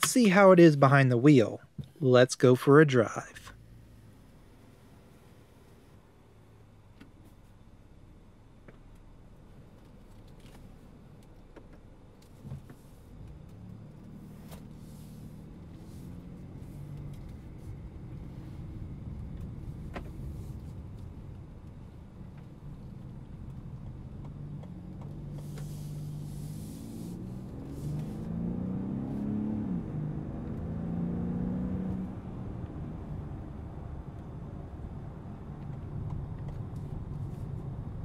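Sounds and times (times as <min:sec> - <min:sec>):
car engine and road hum: 0:00.0 - 0:38.0.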